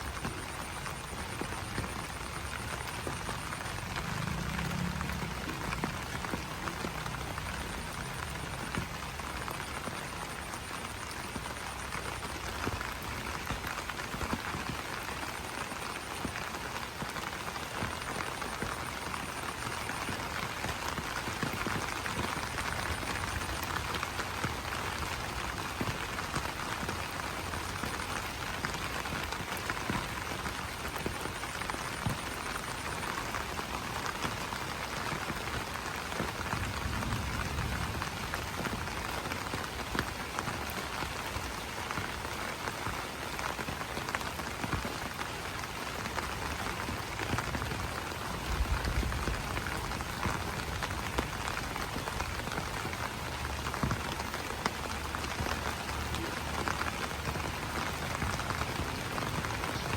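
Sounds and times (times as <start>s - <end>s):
rain pattering on leaves: 0.0s - 59.9s.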